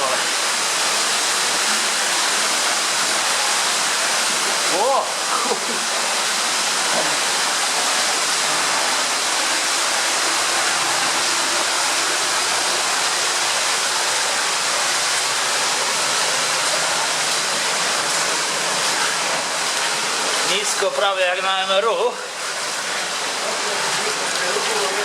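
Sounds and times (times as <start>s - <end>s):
water rushing in tunnel: 0.0s - 25.0s.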